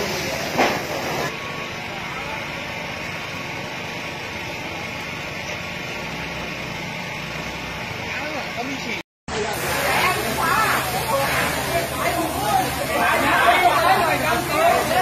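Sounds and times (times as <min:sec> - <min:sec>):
steady rumble and hiss: 0:00.0 - 0:15.0.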